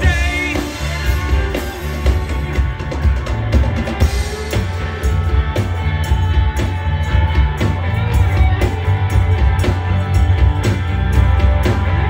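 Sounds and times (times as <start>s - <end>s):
bass guitar: 0.0s - 12.0s
drum kit beat: 0.0s - 12.0s
electric guitars: 0.0s - 12.0s.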